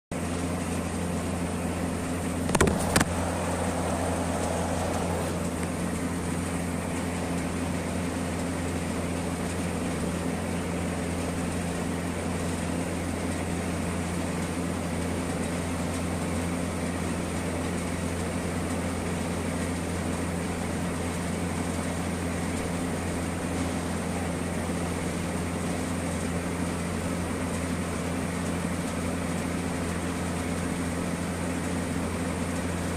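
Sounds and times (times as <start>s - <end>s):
low mechanical hum: 0.2s - 32.9s.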